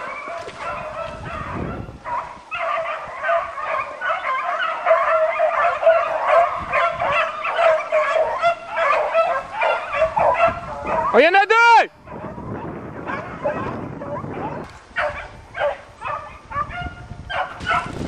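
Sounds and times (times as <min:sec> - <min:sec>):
hounds baying: 0:00.0 - 0:11.4, 0:12.0 - 0:18.0.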